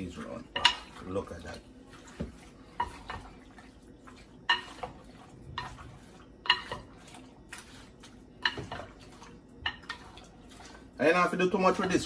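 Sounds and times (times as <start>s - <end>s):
spoon stirring meat in bowl: 0.2s - 10.9s, 11.5s - 12.0s.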